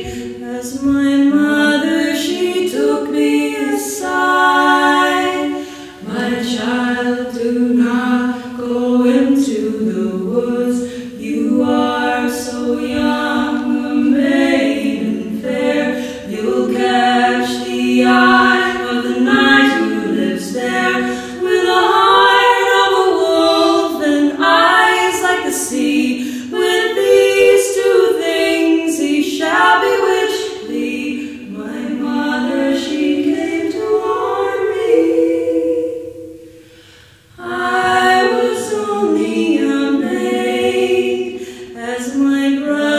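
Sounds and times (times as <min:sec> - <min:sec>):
women singing in harmony: 0:00.0 - 0:42.9.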